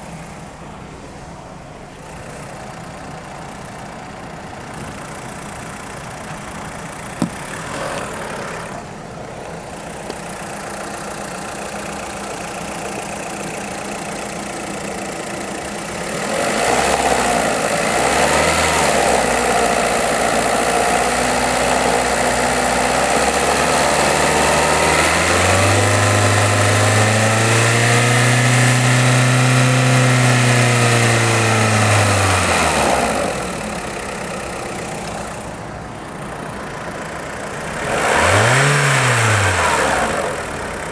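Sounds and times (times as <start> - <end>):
car engine idling and revving: 0.0 - 40.9
engine clacking: 0.0 - 40.9.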